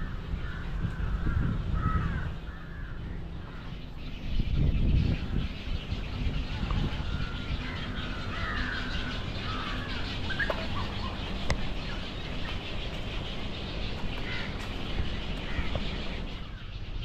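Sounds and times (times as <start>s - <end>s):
birds chirping and whistling: 0.0s - 17.0s
steady low rumble: 0.0s - 17.0s.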